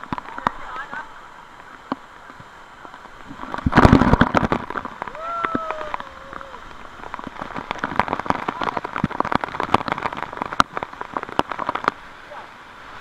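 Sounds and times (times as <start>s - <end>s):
waterfall hissing: 0.0s - 13.0s.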